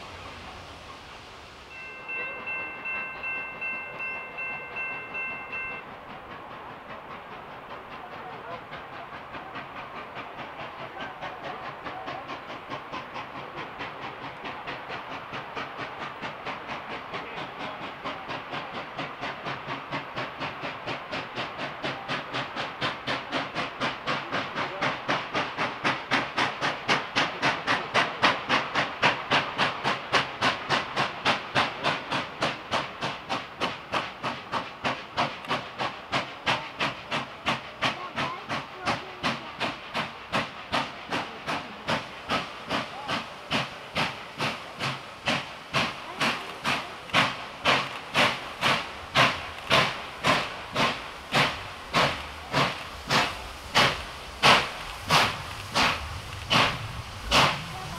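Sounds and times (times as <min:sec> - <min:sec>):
steam hiss: 0:00.0 - 0:57.9
steam locomotive chuffing: 0:00.0 - 0:57.9.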